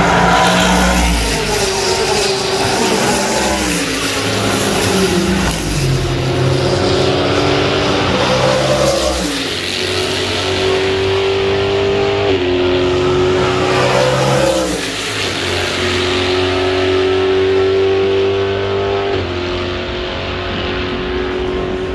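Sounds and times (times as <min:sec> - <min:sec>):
race car engines at high revs: 0:00.0 - 0:21.9.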